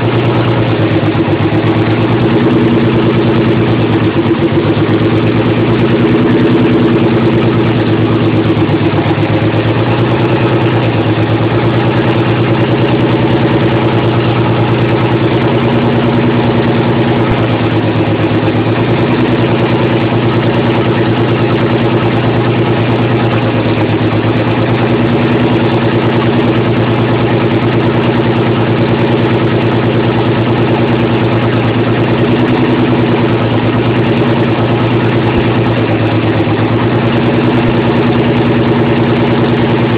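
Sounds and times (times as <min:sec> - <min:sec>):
car engine idling and misfiring: 0:00.0 - 0:39.9.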